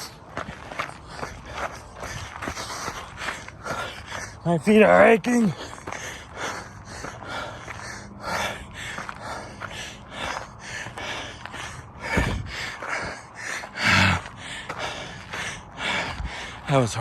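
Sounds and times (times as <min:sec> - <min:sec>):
man panting hard: 0:00.0 - 0:17.0
man gasping: 0:00.7 - 0:04.5, 0:05.4 - 0:16.6.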